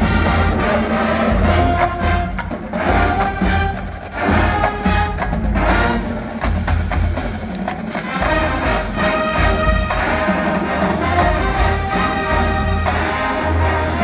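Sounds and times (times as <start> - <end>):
marching band brass chords: 0.0 - 14.0.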